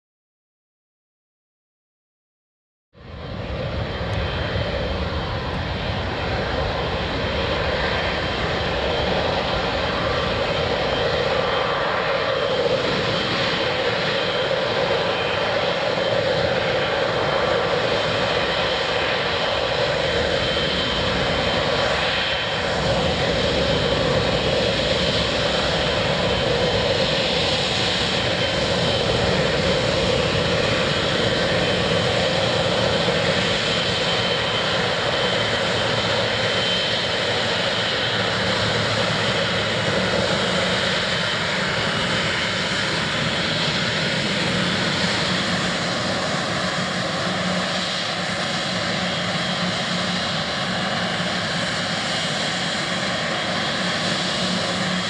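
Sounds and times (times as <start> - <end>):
jet engines rumbling with whine: 3.0 - 55.0.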